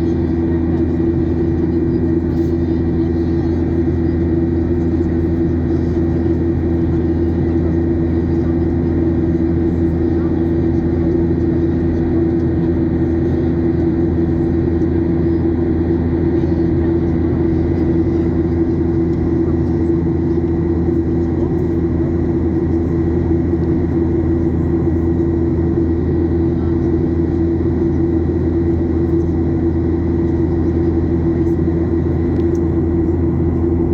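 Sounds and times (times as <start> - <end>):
airplane cabin drone: 0.0 - 33.9.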